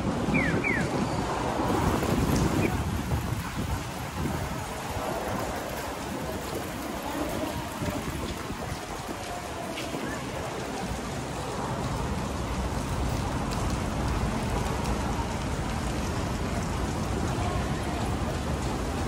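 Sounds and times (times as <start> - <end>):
rain splashing on wet pavement: 0.0 - 19.0.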